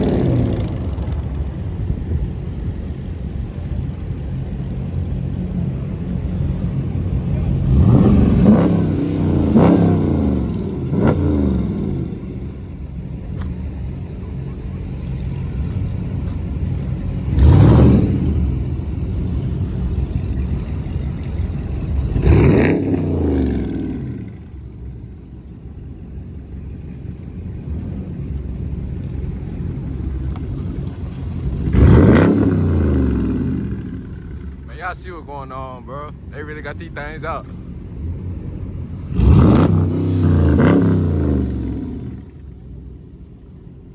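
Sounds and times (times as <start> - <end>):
car engine revving: 0.0 - 1.7, 3.1 - 43.8
engine idle rumble: 0.0 - 43.9.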